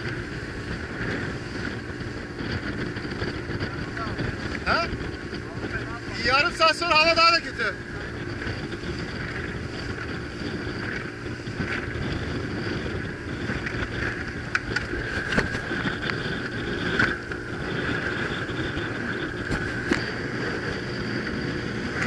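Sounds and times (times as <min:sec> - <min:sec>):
hull slapping waves: 0:00.0 - 0:22.0
motorboat engine: 0:00.0 - 0:22.0
wind on microphone: 0:00.0 - 0:22.0.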